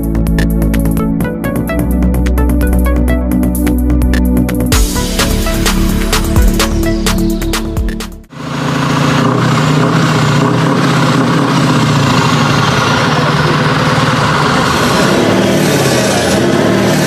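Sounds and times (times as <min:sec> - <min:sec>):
diesel truck engine idling: 0:01.0 - 0:17.0.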